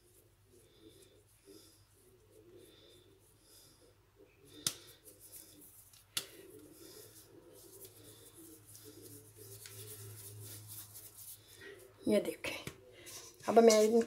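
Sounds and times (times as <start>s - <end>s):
hands shaping dough: 0.0s - 14.0s.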